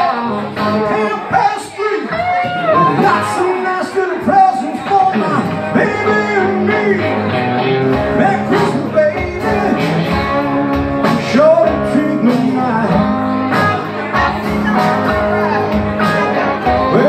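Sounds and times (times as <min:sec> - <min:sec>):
electric guitar playing: 0:00.0 - 0:17.0
man singing: 0:00.0 - 0:17.0
acoustic guitar strumming: 0:02.5 - 0:17.0.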